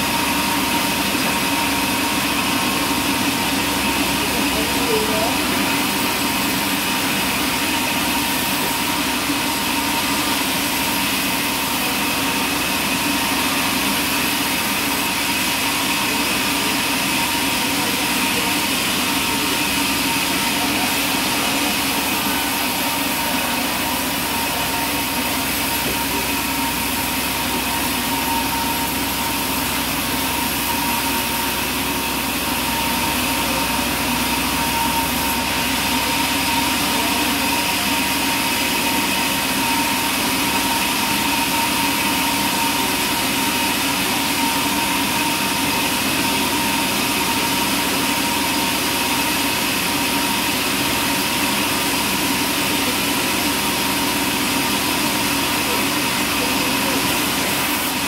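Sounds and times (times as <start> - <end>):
band saw cutting timber: 0.0 - 58.0.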